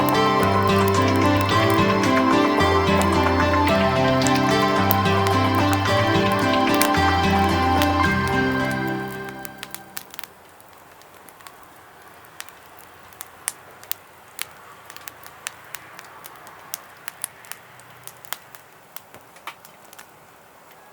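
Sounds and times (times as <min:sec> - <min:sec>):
wood fire crackling and popping: 0:00.0 - 0:20.3.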